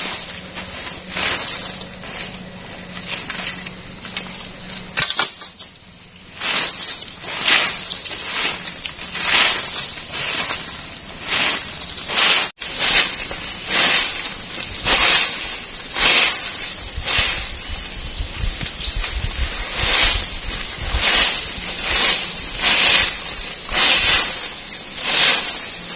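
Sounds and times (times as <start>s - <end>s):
insect drone: 0.0s - 25.9s
rustling in leaf litter: 0.0s - 25.9s.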